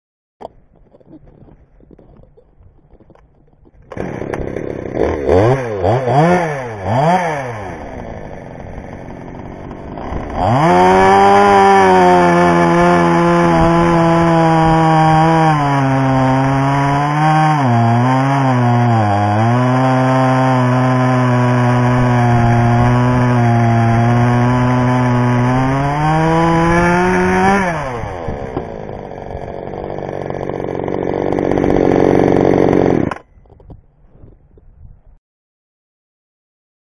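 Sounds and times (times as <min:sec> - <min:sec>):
chainsaw idling and revving: 0:03.4 - 0:33.3.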